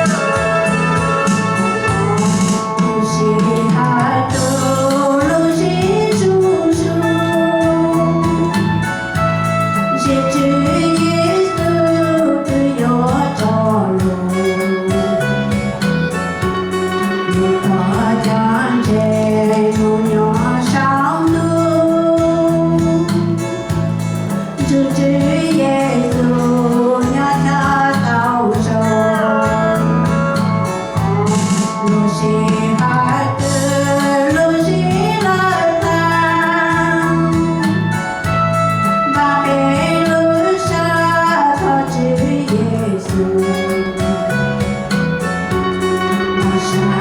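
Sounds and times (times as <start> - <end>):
instrumental backing: 0.0 - 47.0
person singing: 0.0 - 47.0.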